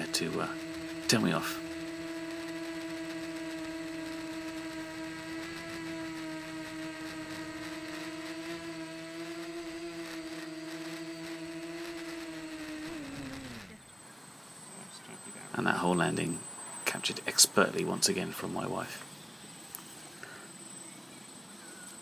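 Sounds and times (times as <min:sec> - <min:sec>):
drone motors and propellers whining: 0:00.0 - 0:22.0.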